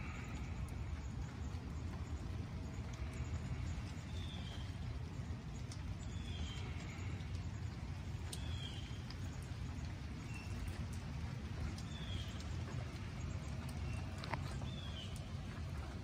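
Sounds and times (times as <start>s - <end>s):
faint ticks: 0.0s - 16.0s
steady low rumble: 0.0s - 16.0s.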